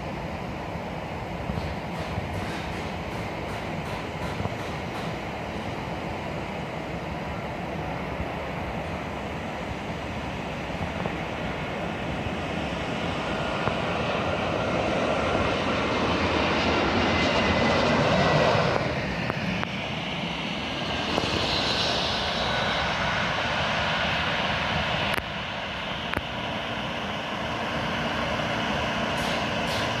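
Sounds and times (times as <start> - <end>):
high jet engine whine: 0.0 - 30.0
jet engines landing: 0.0 - 30.0.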